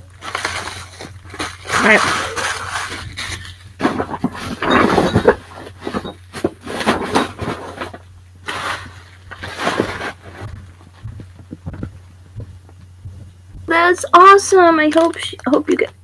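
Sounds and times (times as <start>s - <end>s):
low steady hum: 0.0s - 16.0s
rustling and handling on a table: 0.2s - 13.5s.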